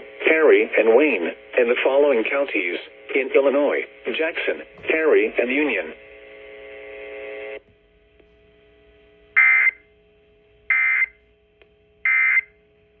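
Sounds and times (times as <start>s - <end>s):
steady buzzing tone: 0.0s - 13.0s.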